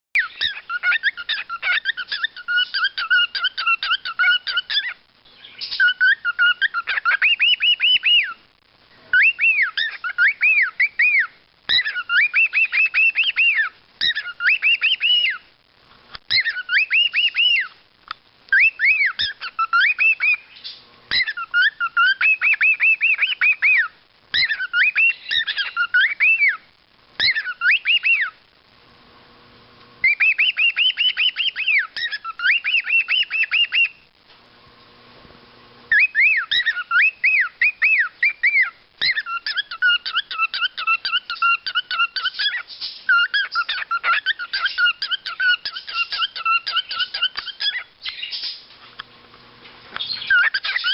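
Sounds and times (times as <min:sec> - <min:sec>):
cockatiels whistling: 0:00.2 - 0:08.4, 0:09.1 - 0:15.4, 0:16.3 - 0:17.8, 0:18.5 - 0:26.6, 0:27.2 - 0:28.4, 0:30.0 - 0:34.0, 0:35.9 - 0:48.6, 0:50.0 - 0:50.9.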